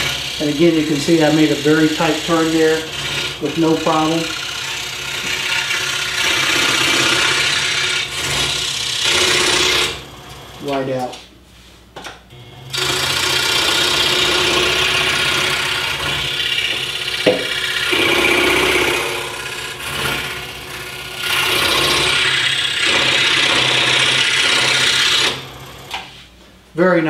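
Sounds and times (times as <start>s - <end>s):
scroll saw blade cutting wood: 0.0s - 10.0s, 12.7s - 26.1s
steady motor hum: 0.0s - 26.3s.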